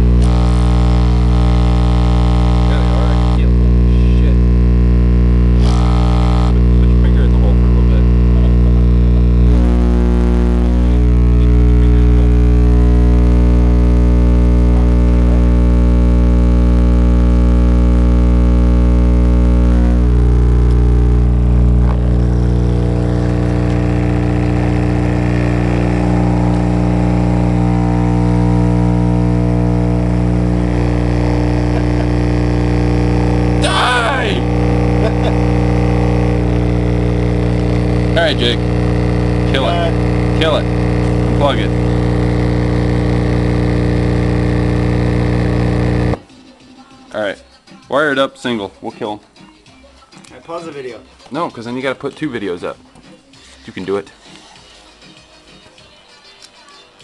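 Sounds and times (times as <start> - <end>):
subwoofers buzzing at mains frequency: 0.0 - 46.3.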